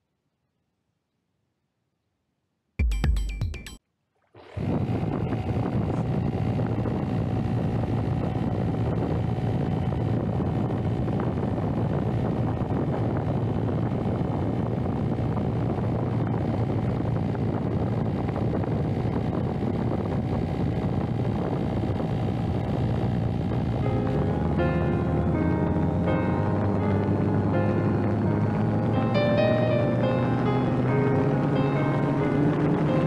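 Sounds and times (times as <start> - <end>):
electric motor whine: 4.5 - 33.0
wind rushing over microphone: 4.6 - 33.0.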